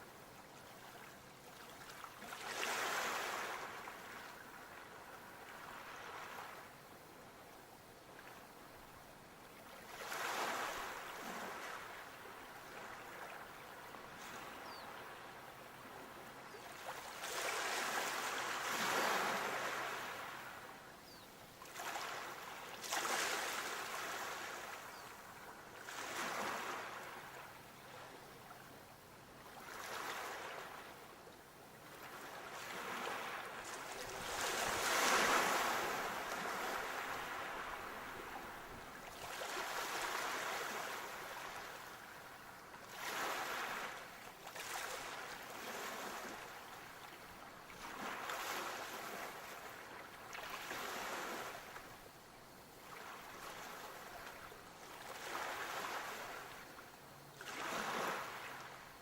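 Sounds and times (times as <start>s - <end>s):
sea waves breaking on shore: 0.8s - 6.7s, 9.6s - 20.8s, 21.6s - 28.2s, 29.4s - 31.1s, 31.8s - 52.0s, 52.8s - 59.0s.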